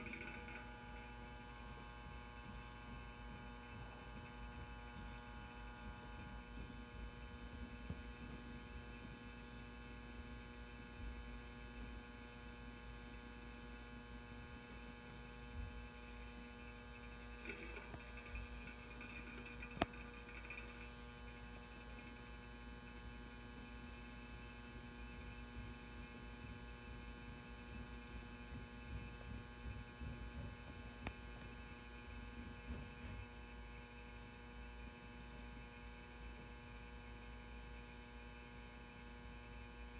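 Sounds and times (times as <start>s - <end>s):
lamp ballast humming: 0.0s - 39.9s.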